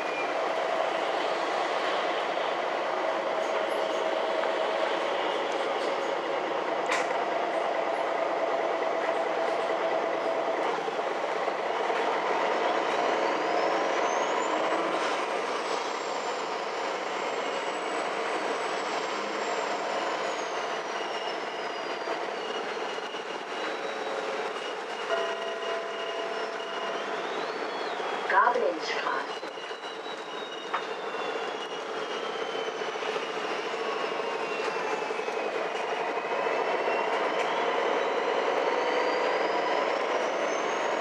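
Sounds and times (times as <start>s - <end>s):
bus drive and rolling noise: 0.0s - 25.1s, 27.0s - 41.0s.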